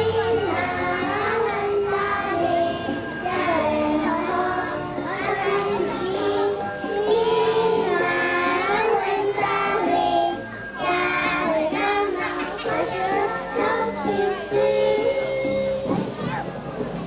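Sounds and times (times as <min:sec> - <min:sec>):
children singing: 0:00.0 - 0:15.5.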